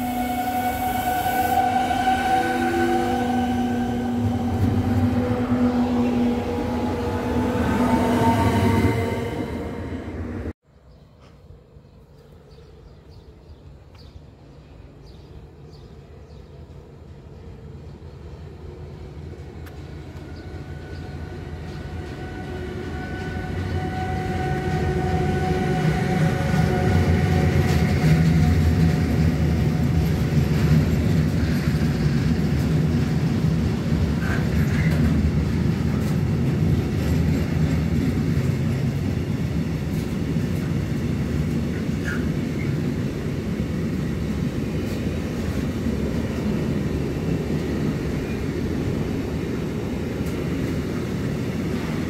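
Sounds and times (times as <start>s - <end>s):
locomotive high whine: 0.0s - 10.6s, 19.6s - 52.0s
freight wagons rumbling on rails: 1.6s - 10.5s, 19.2s - 52.0s.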